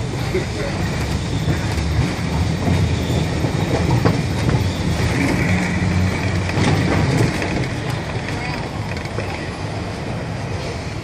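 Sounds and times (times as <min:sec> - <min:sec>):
rail joint clicks: 0:00.0 - 0:11.0
streetcar wheels rumbling: 0:00.0 - 0:11.0.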